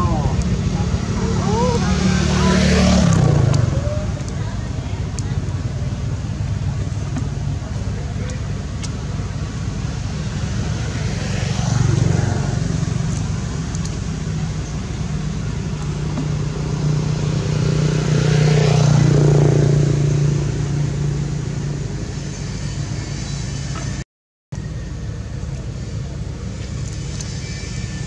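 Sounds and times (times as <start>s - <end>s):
vehicles passing: 0.0s - 24.0s, 24.6s - 28.0s
traffic engine drone: 0.0s - 28.0s.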